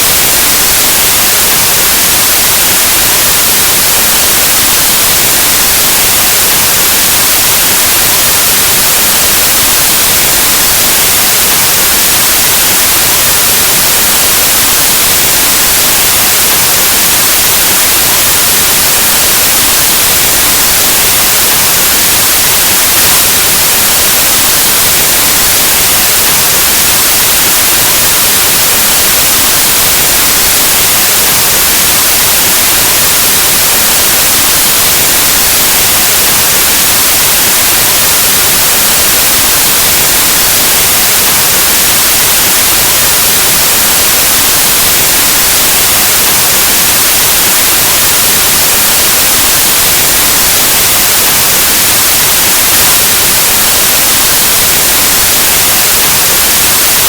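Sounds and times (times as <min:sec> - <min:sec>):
loud static hiss: 0:00.0 - 0:57.0.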